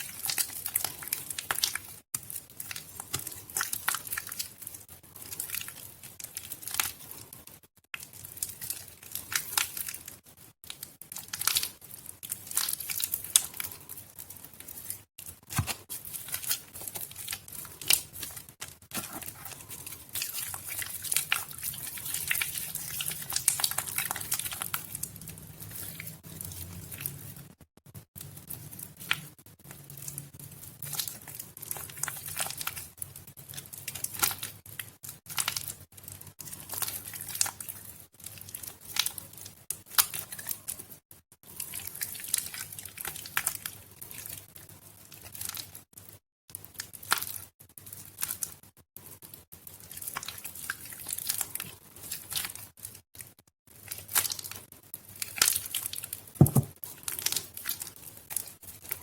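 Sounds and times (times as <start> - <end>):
wet soap crackling by hand: 0.0 - 27.5, 28.2 - 48.6, 49.3 - 59.0.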